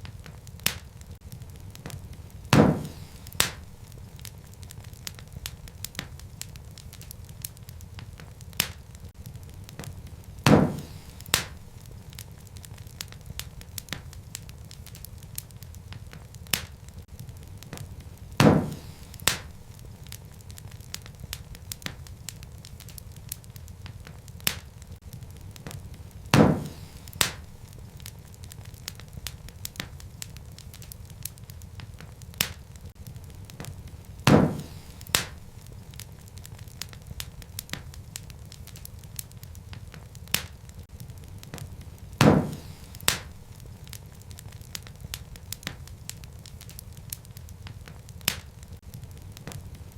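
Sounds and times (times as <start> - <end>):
fire crackling: 0.0 - 49.9
low rumble of fire: 0.0 - 49.9
sharp fire pops: 0.0 - 49.9.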